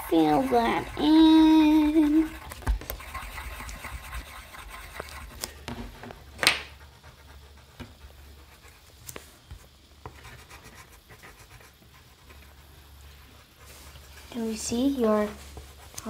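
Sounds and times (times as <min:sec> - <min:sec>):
pencils scratching on paper: 0:00.0 - 0:06.0, 0:06.8 - 0:09.0, 0:09.6 - 0:16.0.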